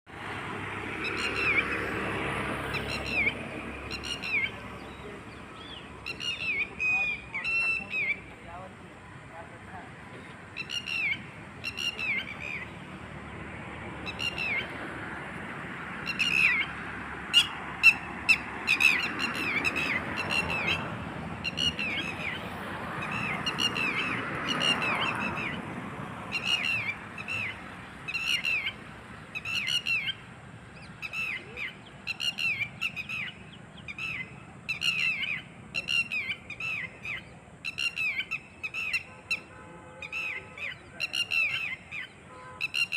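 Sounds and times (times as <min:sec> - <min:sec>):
bird harsh downward calls: 0:00.9 - 0:08.5, 0:10.1 - 0:13.0, 0:14.0 - 0:14.9, 0:15.9 - 0:42.9.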